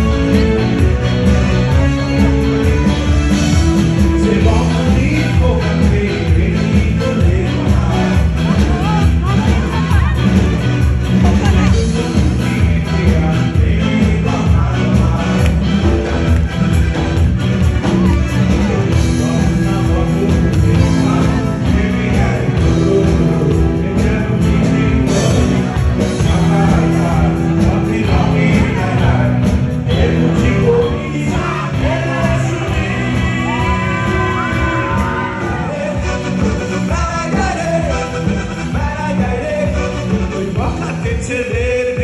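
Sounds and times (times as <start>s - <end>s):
man singing: 0.0s - 42.0s
rock band playing: 0.0s - 42.0s.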